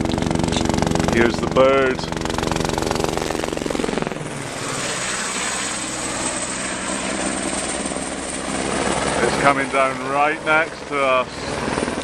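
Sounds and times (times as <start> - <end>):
helicopter engine whine: 0.0 - 12.0
helicopter rotor chopping: 0.0 - 12.0.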